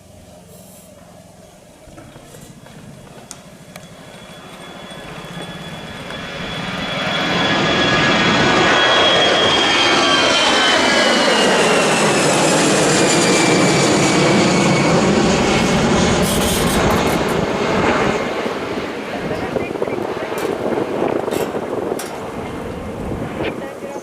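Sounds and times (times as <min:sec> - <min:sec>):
engine high whine: 0:00.0 - 0:24.0
turboprop aircraft passing: 0:00.0 - 0:24.0.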